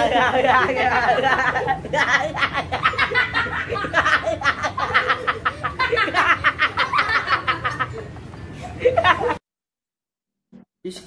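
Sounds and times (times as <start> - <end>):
boy laughing hard: 0.0 - 9.4.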